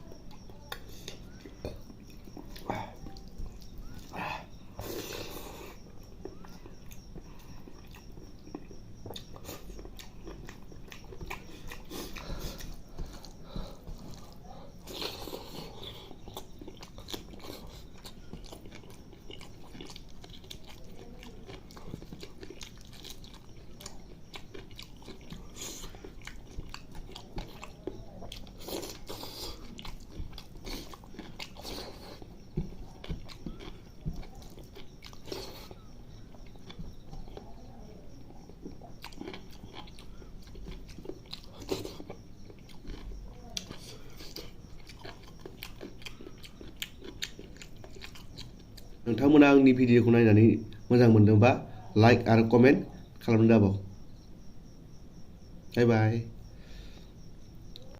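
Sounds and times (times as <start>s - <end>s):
wet chewing: 0.0s - 49.3s.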